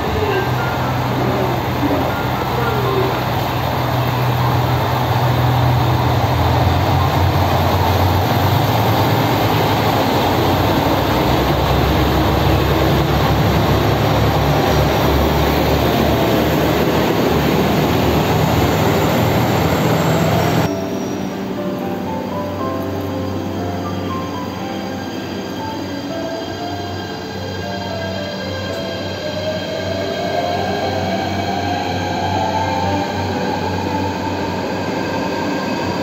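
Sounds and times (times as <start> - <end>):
diesel train rumbling past: 0.0 - 36.0.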